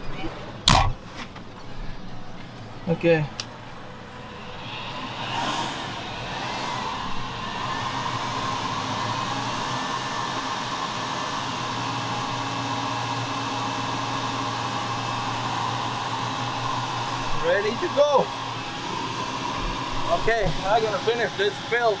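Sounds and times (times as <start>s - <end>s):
tractor engine whirring hum: 1.5s - 22.0s.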